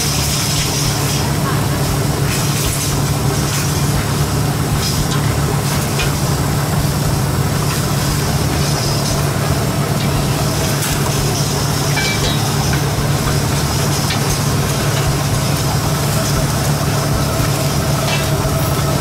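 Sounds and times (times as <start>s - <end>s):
low mechanical machine drone: 0.0s - 19.0s.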